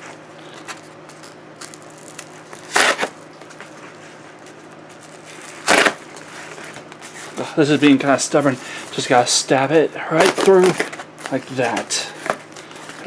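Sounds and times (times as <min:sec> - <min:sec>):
packaging crinkling: 0:00.3 - 0:09.3, 0:10.2 - 0:13.0
wrapping rasps: 0:00.4 - 0:09.3, 0:10.2 - 0:13.0.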